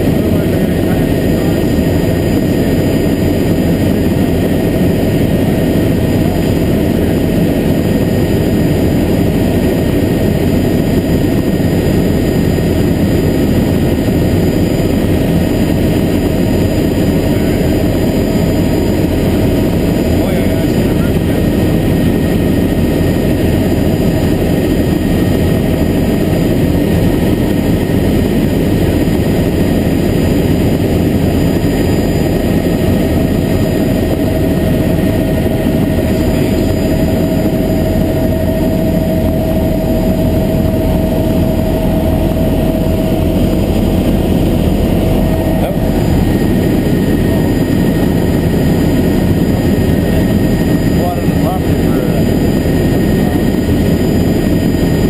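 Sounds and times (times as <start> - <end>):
faint steady whine: 0.0 - 55.0
helicopter engine and rotor drone: 0.0 - 55.0.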